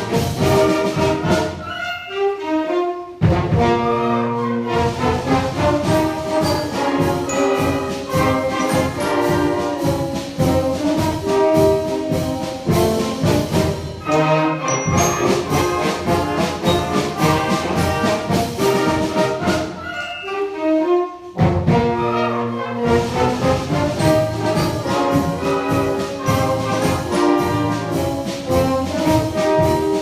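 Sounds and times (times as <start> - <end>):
drum strokes: 0.0 - 1.6, 4.7 - 20.4, 22.8 - 30.0
trumpets and trombones: 0.0 - 30.0
wind band playing: 0.0 - 30.0.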